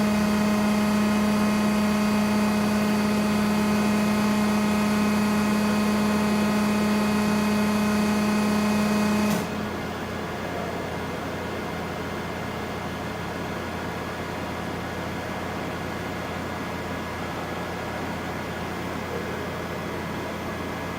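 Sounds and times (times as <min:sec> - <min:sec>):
hydraulic power unit humming: 0:00.0 - 0:20.9
quiet even machine noise: 0:00.0 - 0:20.9.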